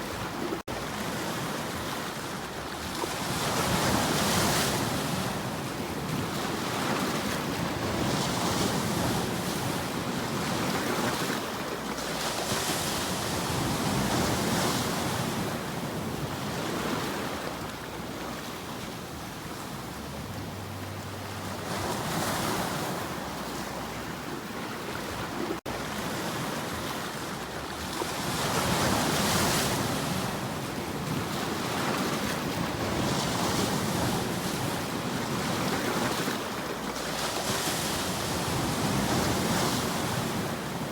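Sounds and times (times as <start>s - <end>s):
ocean waves washing on shore: 0.0s - 40.9s.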